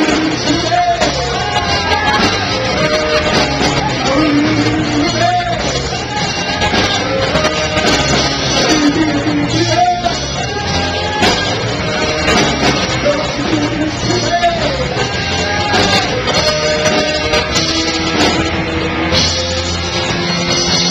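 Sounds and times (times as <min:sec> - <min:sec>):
amplified guitars: 0:00.0 - 0:20.9
person singing: 0:00.0 - 0:20.9
steady beat: 0:00.0 - 0:20.9.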